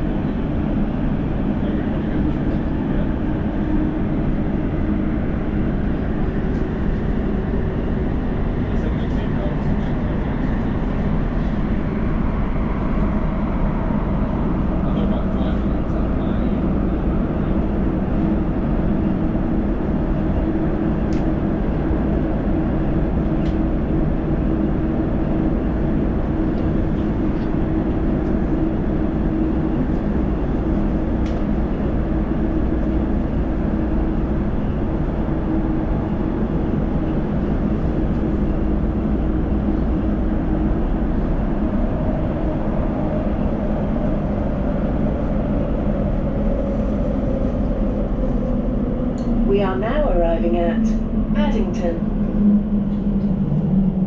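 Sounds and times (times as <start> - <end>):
train rumbling through tunnel: 0.0 - 54.0.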